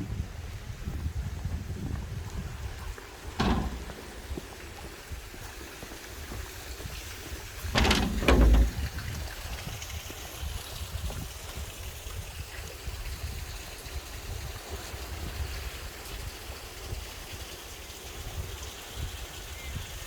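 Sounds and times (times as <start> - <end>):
wind rumble on microphone: 0.0 - 5.5, 6.2 - 20.0.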